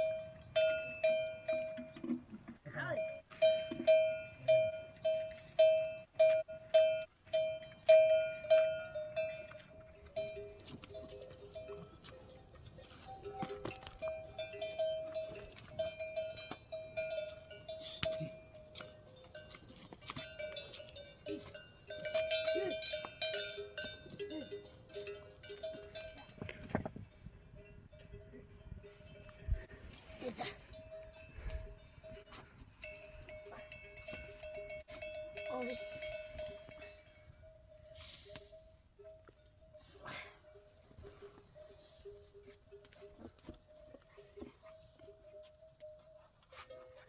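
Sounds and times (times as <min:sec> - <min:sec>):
livestock neck bells clanking: 0:00.0 - 0:47.0.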